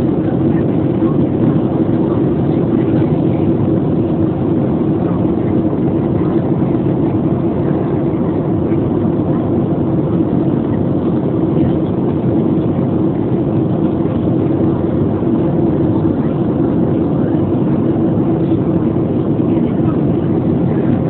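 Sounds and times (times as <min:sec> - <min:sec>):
airplane cabin noise: 0:00.0 - 0:21.0.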